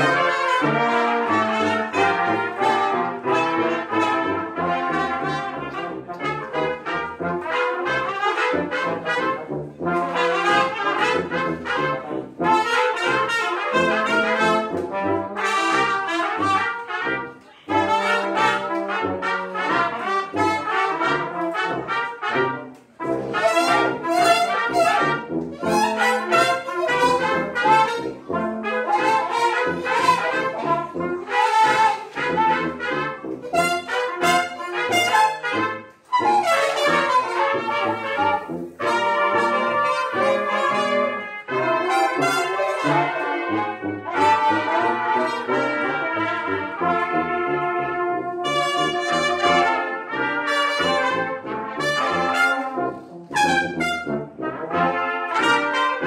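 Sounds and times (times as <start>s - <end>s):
brass quintet playing: 0.0s - 56.0s.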